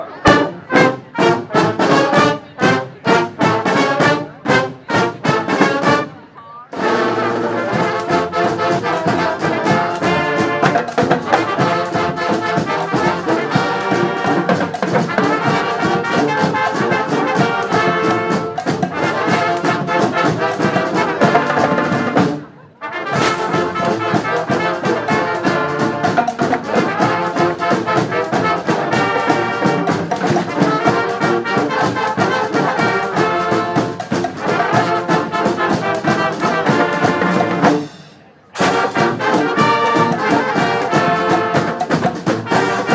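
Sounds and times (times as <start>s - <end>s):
street brass band playing: 0.0s - 42.9s.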